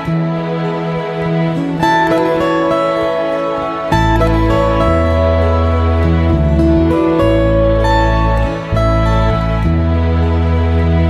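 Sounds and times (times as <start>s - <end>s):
gentle plucked guitar: 0.0s - 11.0s.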